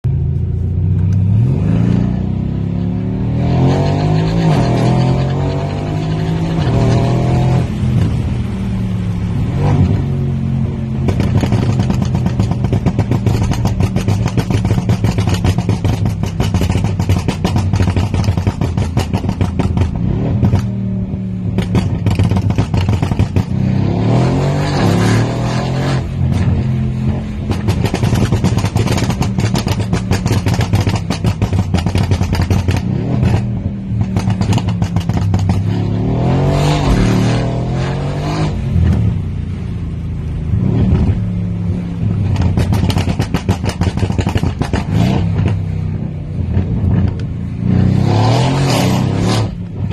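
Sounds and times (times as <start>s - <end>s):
exhaust crackling: 0.0s - 49.9s
car engine revving: 1.0s - 49.9s.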